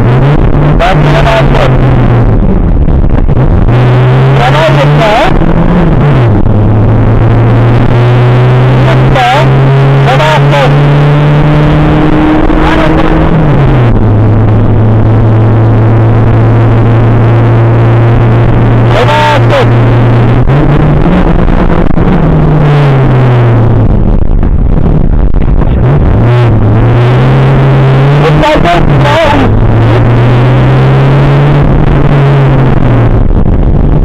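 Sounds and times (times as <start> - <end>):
rally car engine: 0.0 - 34.0.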